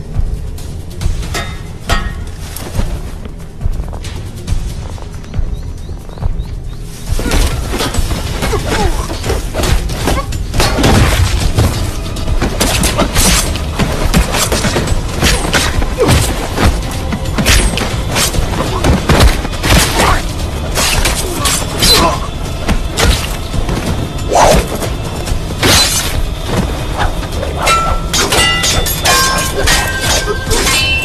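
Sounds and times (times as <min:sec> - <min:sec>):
film music: 0:00.0 - 0:31.0.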